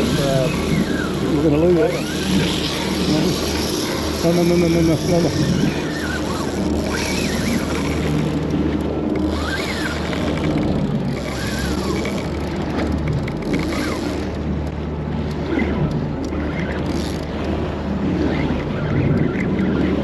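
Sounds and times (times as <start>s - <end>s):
boat engine running: 0.0s - 20.0s
wind: 0.0s - 20.0s.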